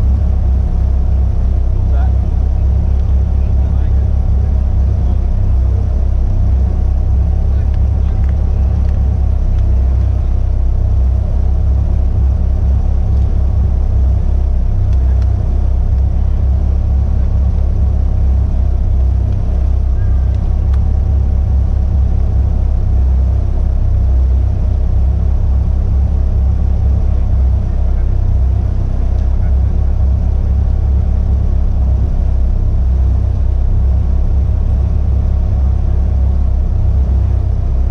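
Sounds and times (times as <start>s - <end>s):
race car engine idling: 0.0s - 37.9s.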